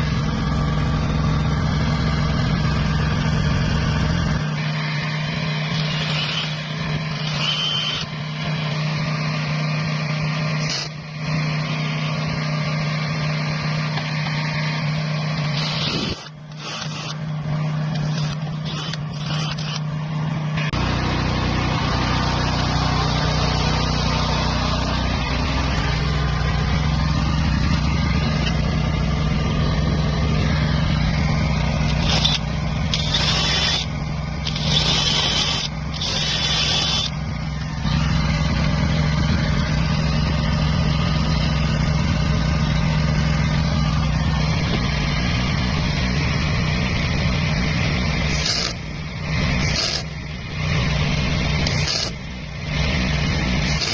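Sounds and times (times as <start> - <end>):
welding machine hum and hiss: 0.0 - 53.9.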